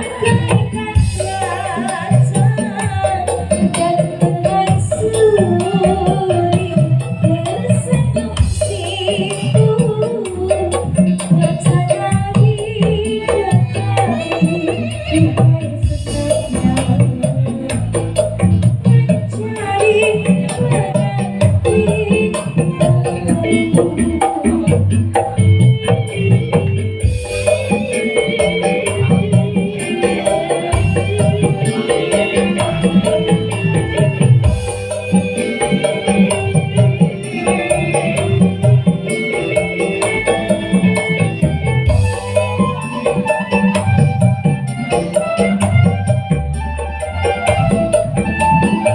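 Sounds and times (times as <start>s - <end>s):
hand drums and shaker beat: 0.0s - 48.9s
live music over pa system: 0.0s - 48.9s.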